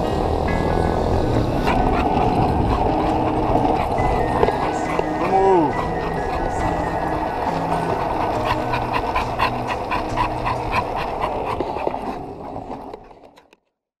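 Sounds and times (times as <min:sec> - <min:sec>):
skateboard wheels rolling on asphalt: 0:00.0 - 0:13.6
dog panting rapidly: 0:01.6 - 0:13.6.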